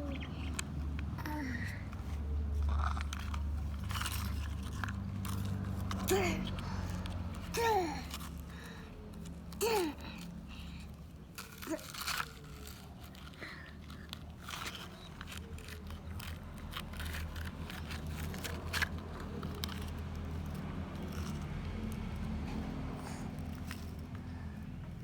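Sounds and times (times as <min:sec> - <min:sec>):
toy vehicles scraping through sand: 0:00.0 - 0:25.0.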